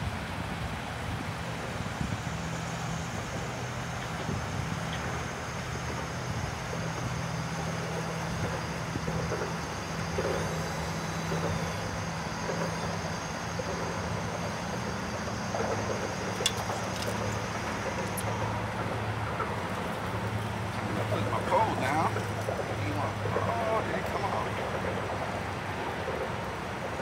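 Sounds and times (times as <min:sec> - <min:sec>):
boat motor humming: 0:00.0 - 0:27.0.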